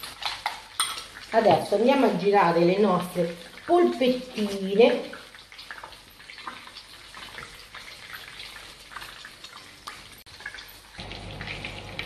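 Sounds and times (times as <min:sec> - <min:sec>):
meatballs sizzling in hot oil: 0:00.0 - 0:12.0.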